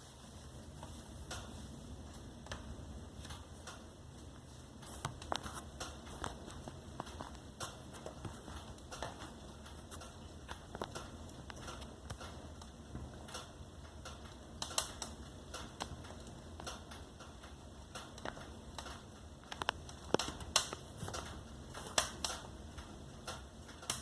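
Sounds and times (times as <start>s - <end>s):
low steady hiss: 0.0s - 24.0s
wood fire crackling: 0.0s - 24.0s.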